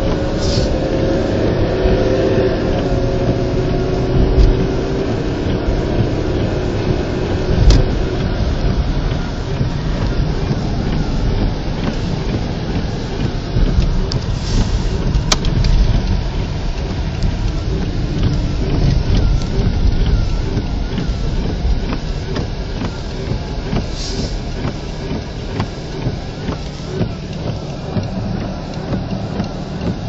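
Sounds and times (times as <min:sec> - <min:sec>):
vehicle rumbling on the move: 0:00.0 - 0:30.0.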